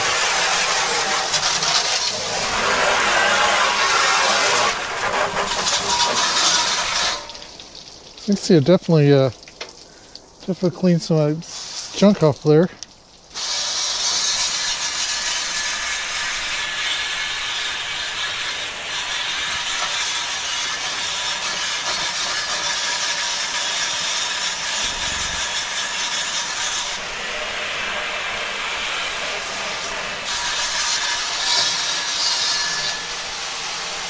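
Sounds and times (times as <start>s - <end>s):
hose spraying water on metal: 0.0s - 34.0s.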